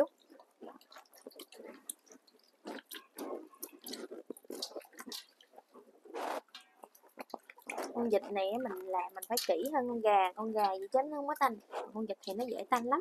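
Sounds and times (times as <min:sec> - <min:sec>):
wet squelching of hands rubbing meat: 0:00.0 - 0:13.0.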